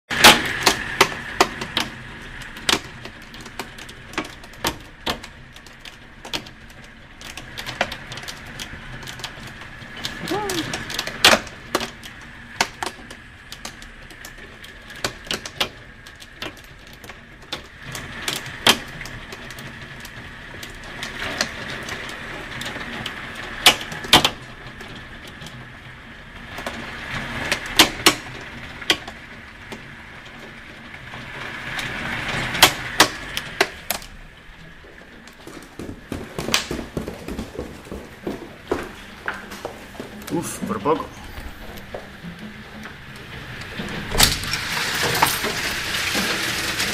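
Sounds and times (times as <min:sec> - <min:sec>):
hailstones cracking on surfaces: 0:00.1 - 0:46.9
hiss of hail and rain: 0:00.1 - 0:46.9.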